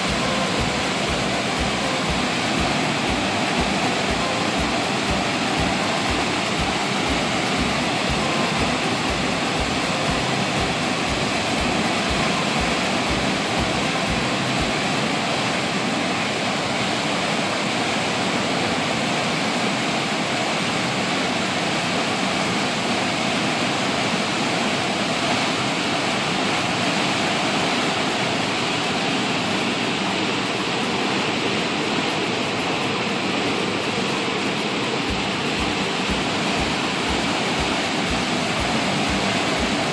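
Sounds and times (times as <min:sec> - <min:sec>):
water rushing in rapids: 0:00.0 - 0:39.9.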